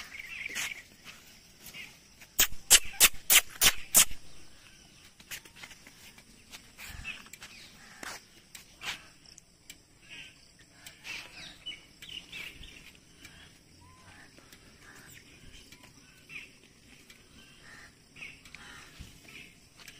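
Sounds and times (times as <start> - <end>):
bird chirps: 0.0 - 9.3, 9.9 - 19.9.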